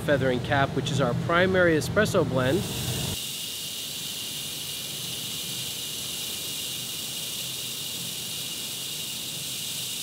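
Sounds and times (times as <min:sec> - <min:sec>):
coffee roaster hot air hiss: 0:00.0 - 0:10.0.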